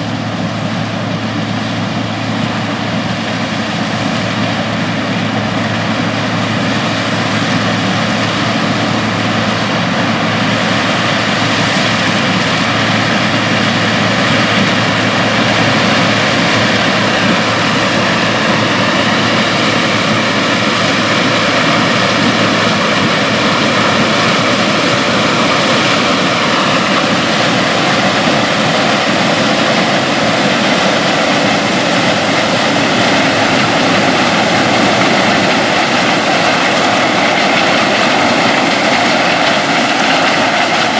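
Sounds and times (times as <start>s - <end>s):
farm machinery droning: 0.0s - 40.9s.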